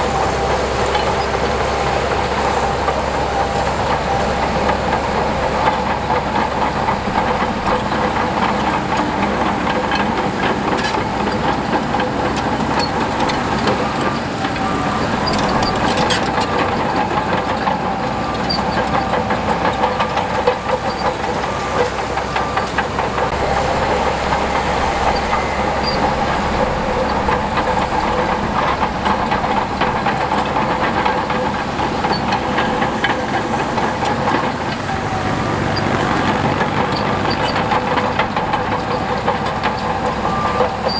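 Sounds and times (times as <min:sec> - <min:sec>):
constant high squeal: 0:00.0 - 0:40.9
heavy diesel machinery working: 0:00.0 - 0:40.9.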